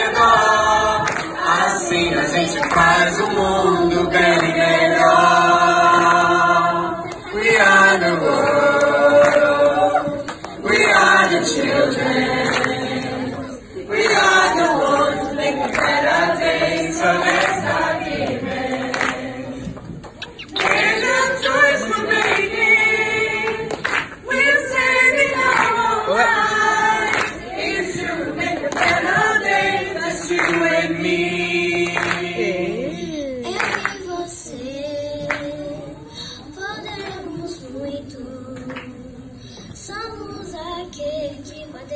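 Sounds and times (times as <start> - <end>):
choir of adults and children singing: 0.0 - 32.9, 37.1 - 39.4.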